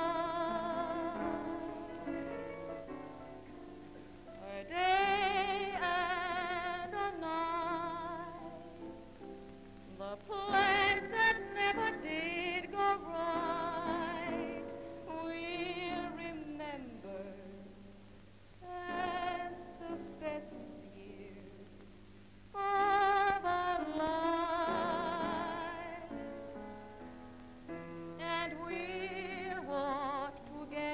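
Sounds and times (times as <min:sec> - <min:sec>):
woman singing with vibrato: 0:00.0 - 0:03.5, 0:04.4 - 0:08.9, 0:09.9 - 0:18.0, 0:18.6 - 0:21.8, 0:22.6 - 0:26.3, 0:28.2 - 0:30.9.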